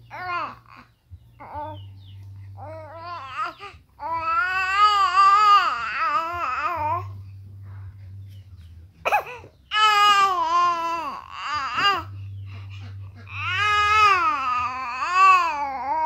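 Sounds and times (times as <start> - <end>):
infant crying: 0.0 - 1.8, 2.6 - 7.2, 9.1 - 16.0.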